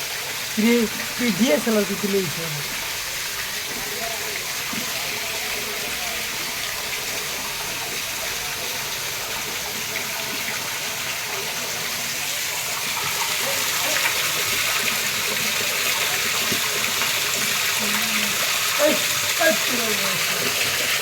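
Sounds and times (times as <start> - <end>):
water rushing and splashing: 0.0 - 21.0
faint voices: 0.6 - 21.0.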